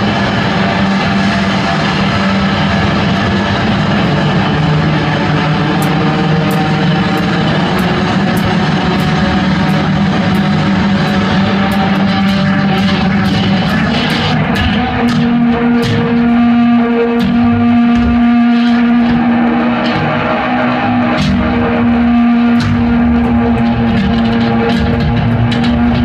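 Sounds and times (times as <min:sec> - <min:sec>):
droning noise music: 0:00.0 - 0:26.0.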